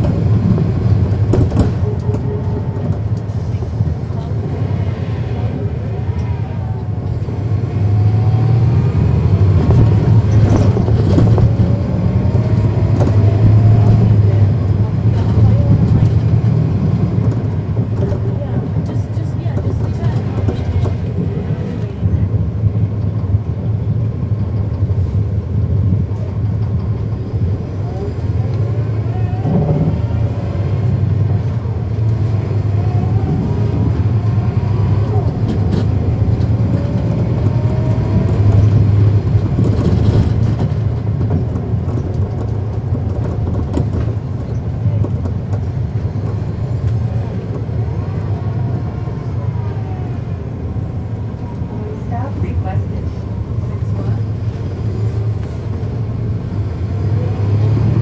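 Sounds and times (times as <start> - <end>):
bus diesel engine drone: 0.0 - 58.0.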